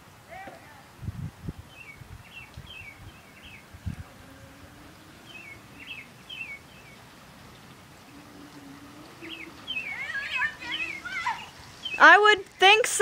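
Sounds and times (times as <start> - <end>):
faint background hiss: 0.0 - 13.0
small birds chirping: 1.6 - 13.0.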